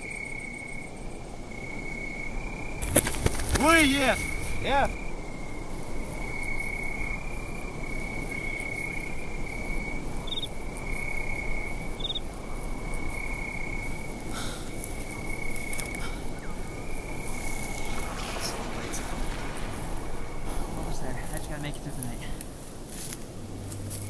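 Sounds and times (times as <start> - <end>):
crickets trilling: 0.0 - 24.0
low hiss: 0.0 - 24.0.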